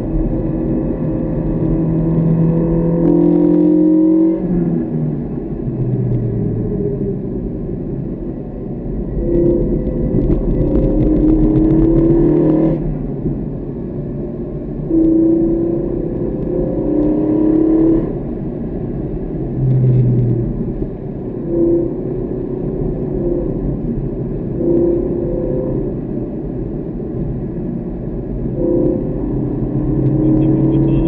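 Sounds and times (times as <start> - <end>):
car engine accelerating: 0.0 - 31.0
road and wind noise: 0.0 - 31.0.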